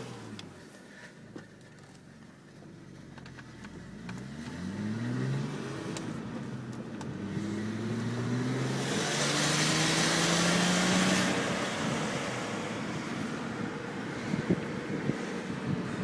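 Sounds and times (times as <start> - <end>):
car engine accelerating: 2.8 - 16.0.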